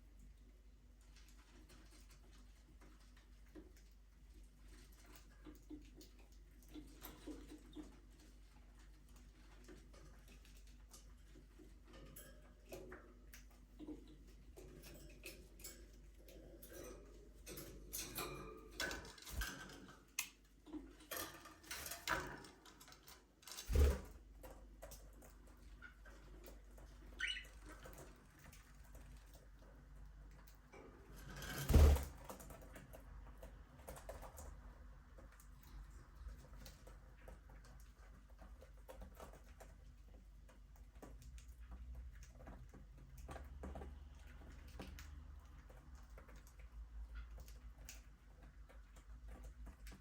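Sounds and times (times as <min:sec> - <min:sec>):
light clicks and patter: 0:00.0 - 0:50.0.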